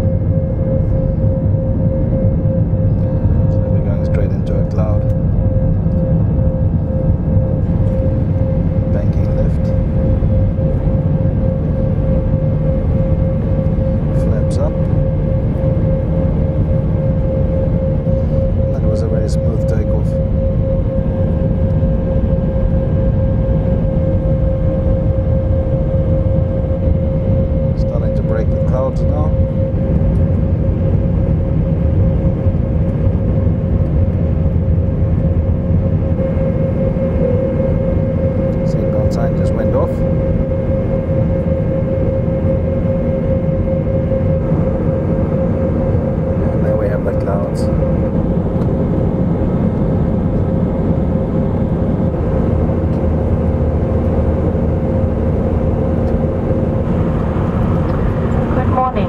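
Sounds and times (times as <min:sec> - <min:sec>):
airplane cabin engine rumble: 0:00.0 - 0:59.0
constant hum: 0:00.0 - 0:59.0.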